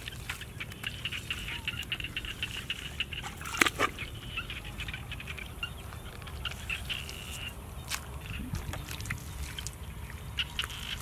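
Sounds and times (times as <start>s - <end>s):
hands squelching in wet mud: 0.0s - 4.2s, 5.2s - 11.0s.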